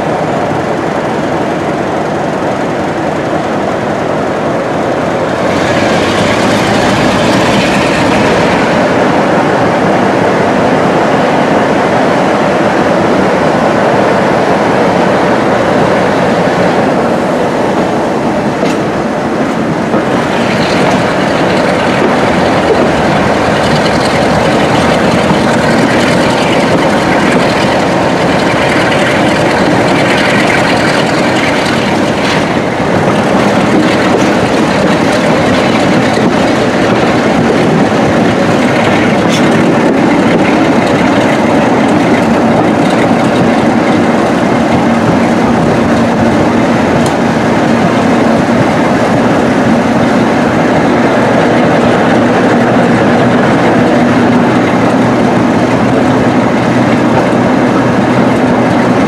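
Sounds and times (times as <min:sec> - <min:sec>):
diesel locomotive engine working hard: 0:00.0 - 0:59.0
wheel and rail noise: 0:00.0 - 0:59.0.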